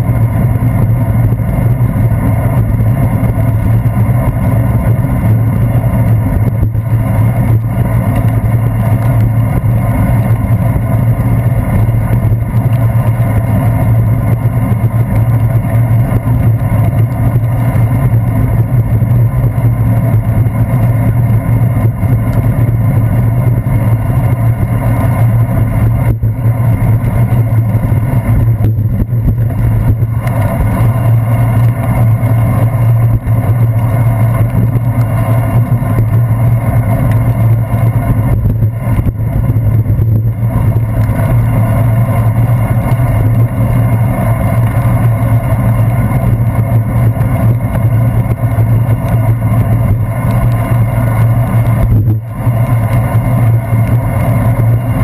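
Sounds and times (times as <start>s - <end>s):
wet road noise: 0.0s - 55.0s
wind rumble: 0.0s - 55.0s.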